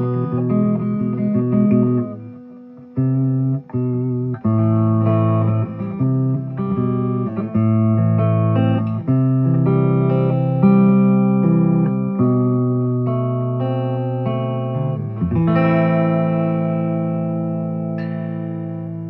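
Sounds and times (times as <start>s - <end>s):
electric guitar: 0.0s - 19.0s.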